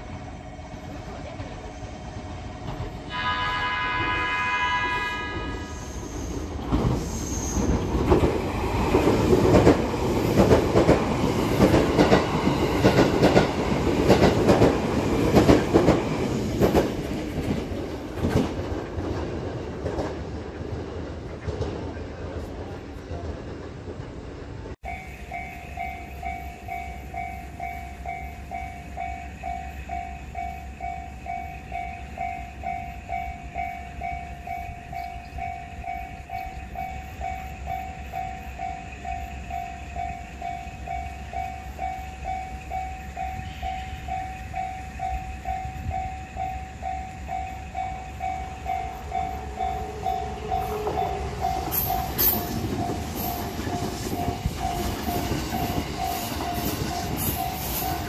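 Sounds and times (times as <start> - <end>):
electric train rumbling past: 0.0 - 58.0.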